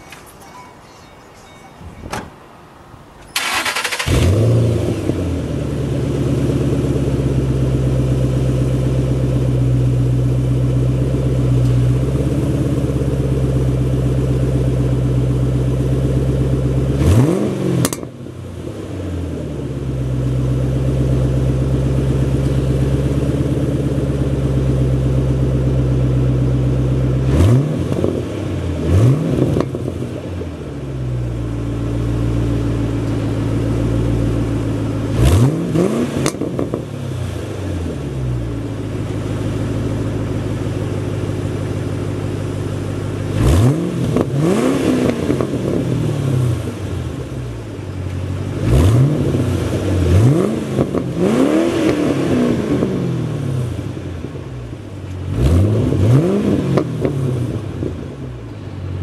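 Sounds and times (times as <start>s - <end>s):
car engine idling and revving: 3.2s - 59.0s.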